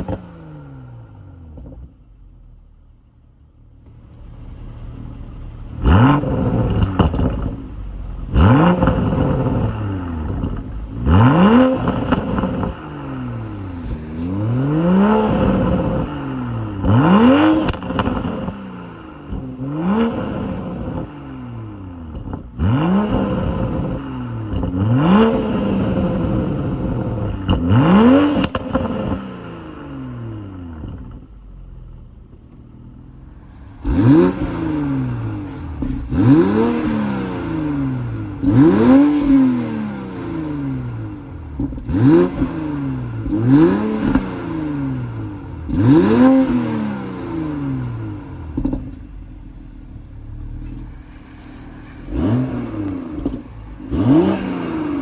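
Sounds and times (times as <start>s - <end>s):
car engine revving: 0.0s - 55.0s
exhaust crackles and pops: 1.5s - 2.1s, 3.7s - 18.6s, 19.2s - 21.1s, 21.9s - 29.2s, 30.7s - 44.5s, 47.4s - 55.0s.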